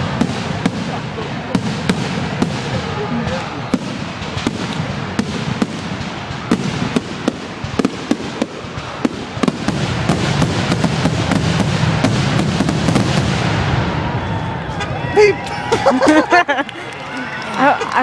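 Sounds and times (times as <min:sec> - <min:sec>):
continuous rumble: 0:00.0 - 0:17.0
fireworks bangs: 0:00.0 - 0:17.0.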